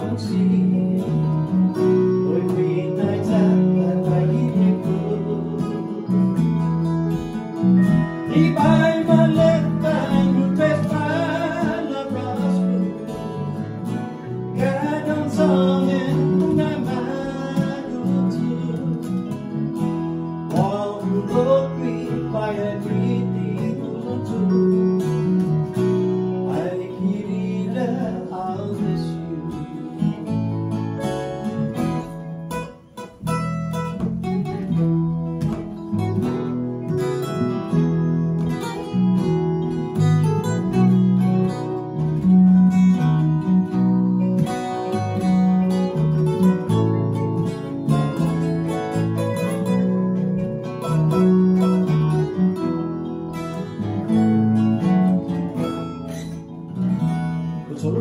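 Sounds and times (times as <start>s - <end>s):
acoustic guitar: 0.0s - 58.0s
electric bass: 0.0s - 58.0s
electric guitar: 0.0s - 58.0s
electric keyboard: 0.0s - 58.0s.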